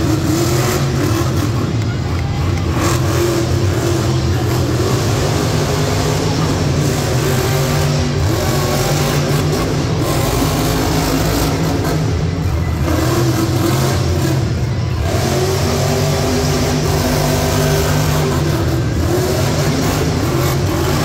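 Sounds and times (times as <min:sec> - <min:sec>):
truck engine revving loudly: 0:00.0 - 0:21.0.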